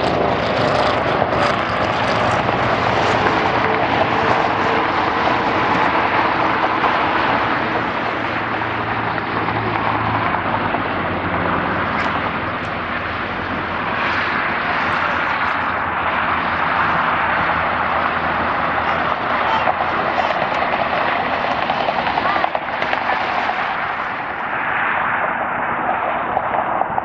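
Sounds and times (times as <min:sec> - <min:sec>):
jet engines rushing and humming: 0:00.0 - 0:27.0.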